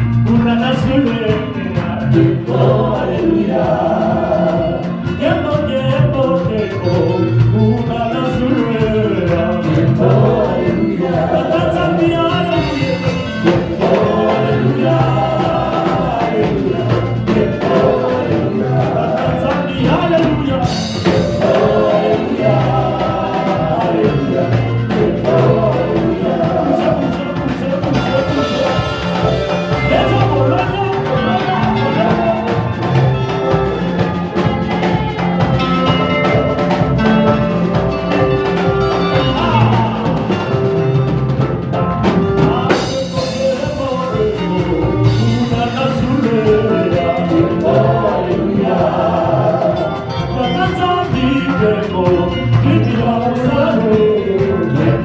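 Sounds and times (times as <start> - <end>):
drum kit dance beat: 0.0 - 55.0
gospel worship band playing: 0.0 - 55.0
voices singing: 0.0 - 55.0.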